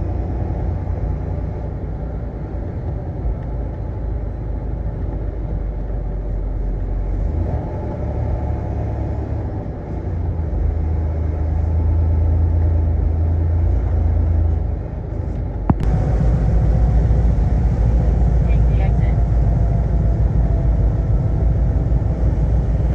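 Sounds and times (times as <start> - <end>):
truck engine and road drone: 0.0 - 22.9.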